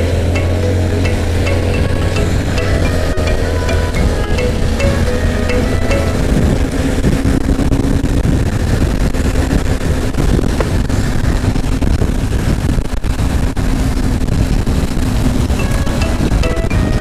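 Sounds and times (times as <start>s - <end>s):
electric motorbike road noise: 0.0s - 17.0s
wind rush over microphone: 0.0s - 17.0s.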